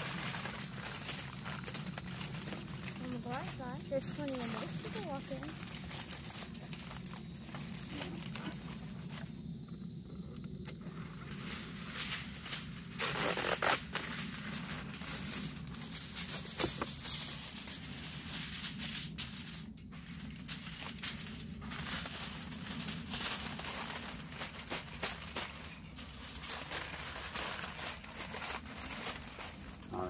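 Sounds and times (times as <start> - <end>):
aluminium foil crinkling: 0.0 - 9.4, 10.2 - 30.0.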